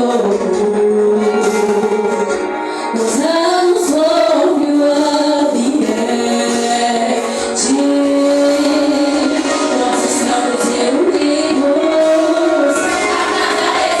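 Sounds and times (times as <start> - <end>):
musical accompaniment: 0.0 - 14.0
woman singing: 0.0 - 14.0.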